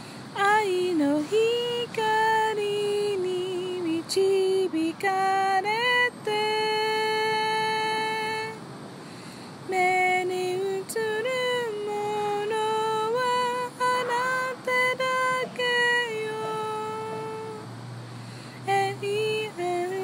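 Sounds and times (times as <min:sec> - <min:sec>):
woman singing unaccompanied: 0:00.0 - 0:08.6, 0:09.6 - 0:17.7, 0:18.5 - 0:20.0.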